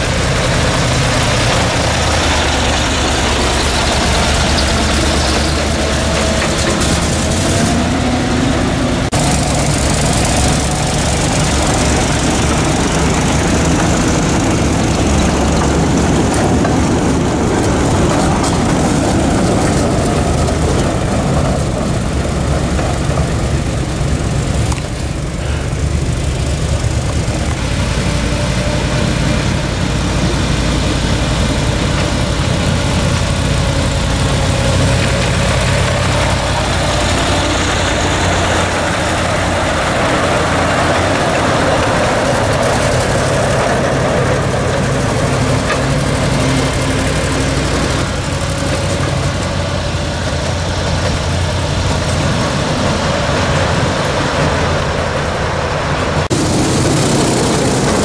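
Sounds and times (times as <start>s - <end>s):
miniature locomotive engine rumbling: 0.0s - 58.0s.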